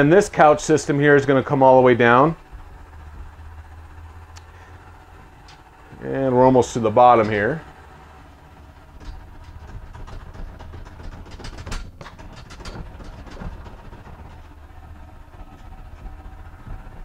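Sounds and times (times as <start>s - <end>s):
clicks and rattles: 0.0s - 17.0s
electric bed lift humming: 0.0s - 17.0s.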